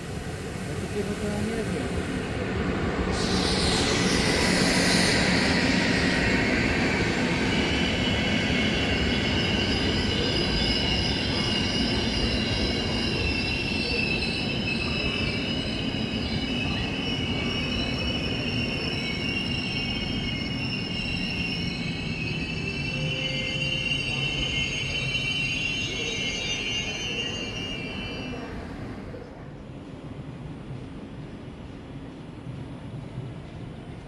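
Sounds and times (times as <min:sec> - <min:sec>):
wheels squealing on rails: 0:00.0 - 0:29.6
train rumbling: 0:00.0 - 0:34.0.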